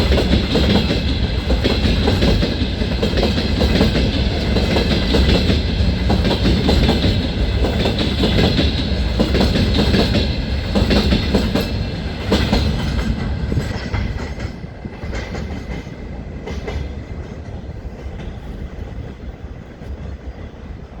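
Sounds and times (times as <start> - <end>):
freight train wheels clattering: 0.0 - 21.0.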